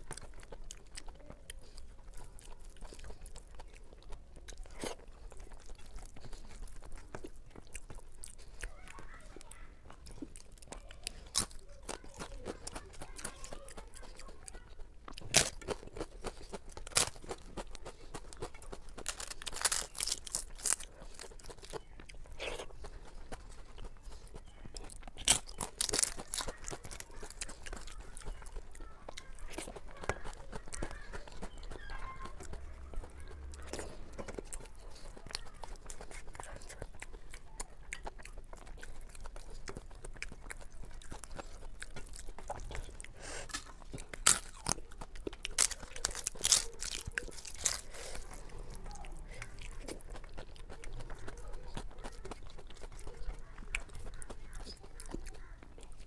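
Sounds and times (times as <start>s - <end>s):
chewing with sharp crunches: 0.0s - 56.0s.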